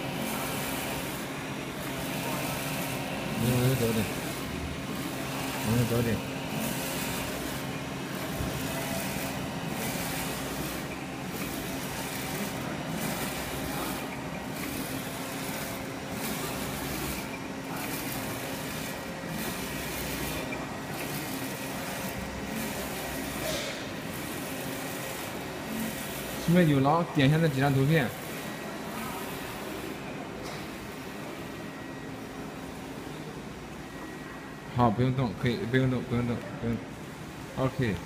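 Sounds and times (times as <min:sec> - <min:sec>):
printer mechanical hiss and hum: 0:00.0 - 0:38.0.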